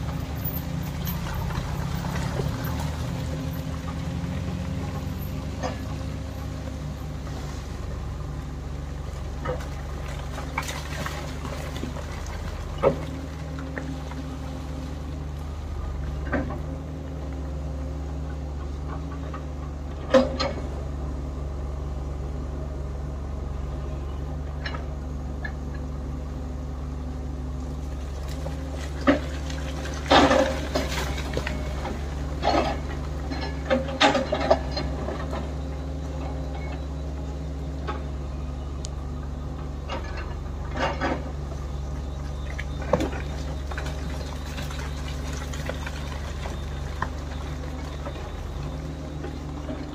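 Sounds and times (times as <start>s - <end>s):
diesel excavator engines running: 0.0s - 49.9s.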